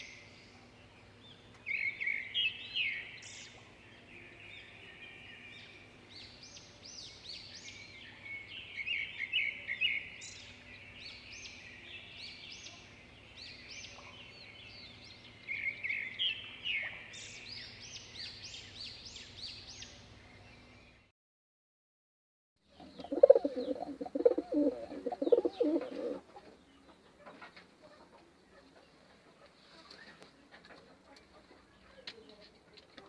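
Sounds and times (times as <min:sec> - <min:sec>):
birds chirping: 0:00.0 - 0:21.1, 0:22.7 - 0:33.0.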